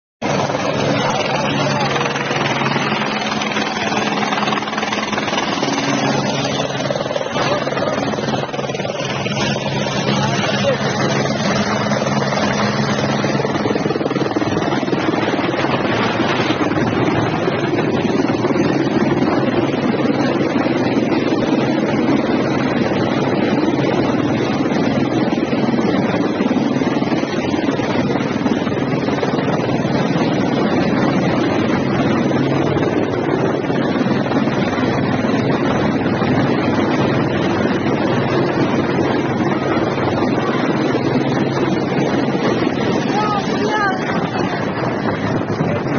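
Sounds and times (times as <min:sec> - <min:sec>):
helicopter hovering: 0:00.2 - 0:45.9
wind buffeting microphone: 0:00.2 - 0:45.9.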